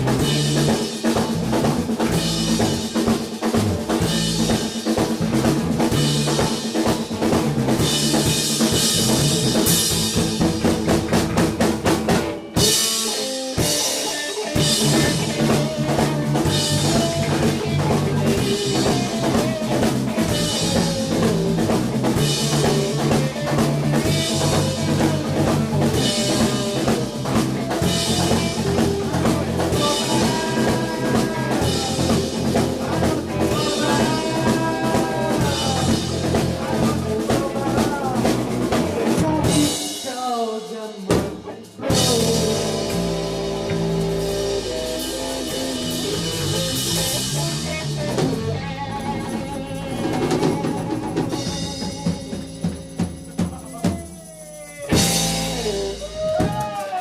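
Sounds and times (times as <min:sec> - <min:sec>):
drum kit beat: 0:00.0 - 0:57.0
live band playing: 0:00.0 - 0:57.0.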